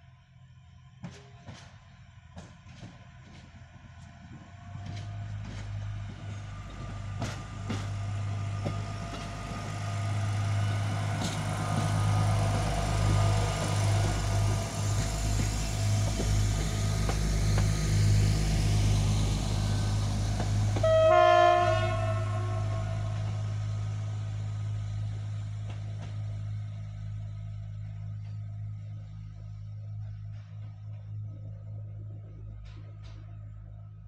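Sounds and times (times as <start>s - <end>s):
diesel railbus engine humming: 0.0s - 34.0s.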